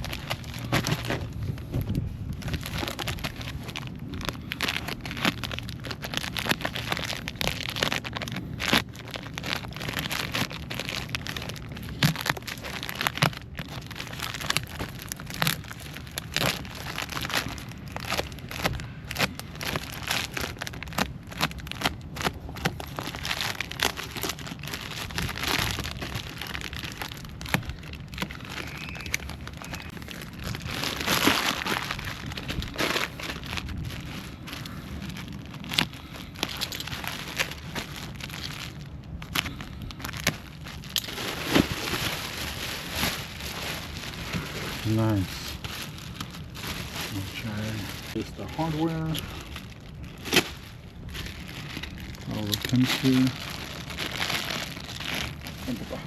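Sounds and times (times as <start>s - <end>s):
packaging crinkling and rustling: 0.0s - 56.0s.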